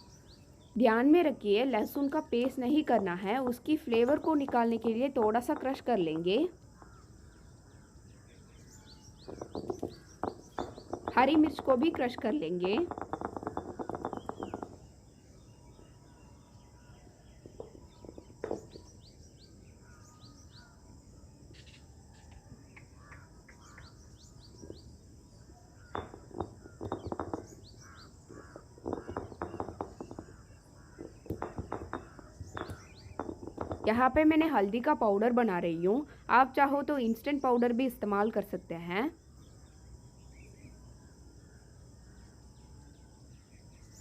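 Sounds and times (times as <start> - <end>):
birds chirping: 0.0 - 38.5.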